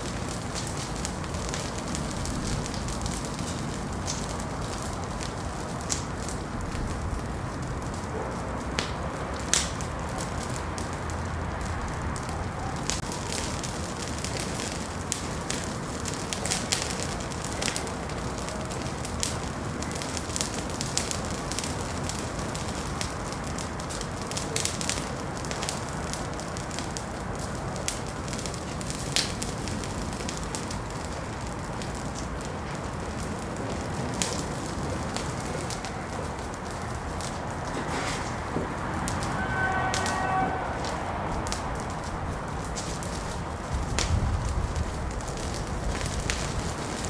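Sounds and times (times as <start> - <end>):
fire hissing and rumbling: 0.0 - 47.0
fire popping and crackling: 0.0 - 47.0.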